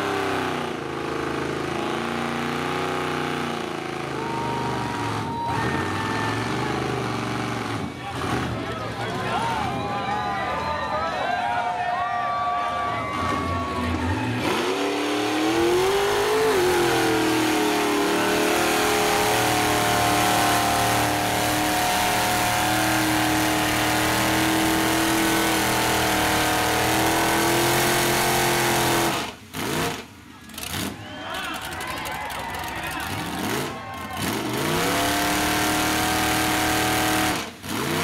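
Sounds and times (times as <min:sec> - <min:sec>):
truck engine at high revs: 0:00.0 - 0:09.9, 0:13.1 - 0:38.0.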